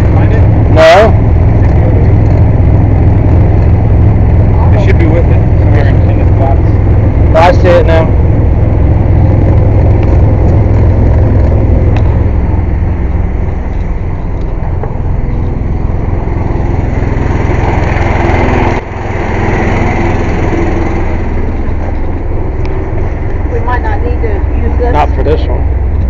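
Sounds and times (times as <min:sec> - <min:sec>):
air compressor running: 0:00.0 - 0:23.6.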